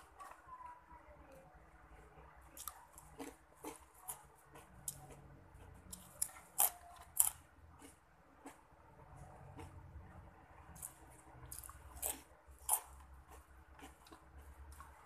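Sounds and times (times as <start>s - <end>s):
crunchy chewing: 1.8s - 15.0s.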